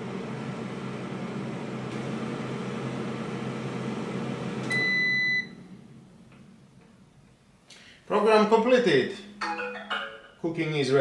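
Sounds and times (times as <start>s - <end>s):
air fryer fan humming: 0.0s - 9.5s.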